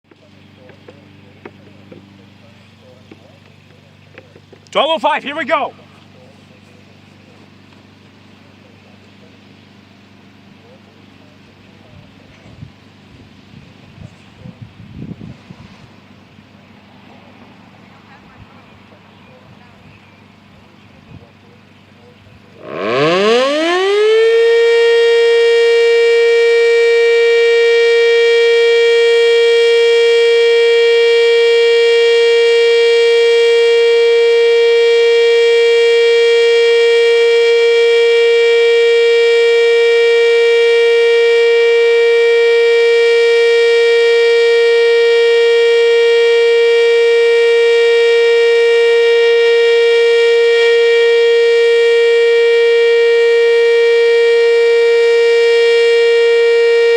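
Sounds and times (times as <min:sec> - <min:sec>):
electromechanical warning siren: 0:00.0 - 0:08.0, 0:08.6 - 0:56.9.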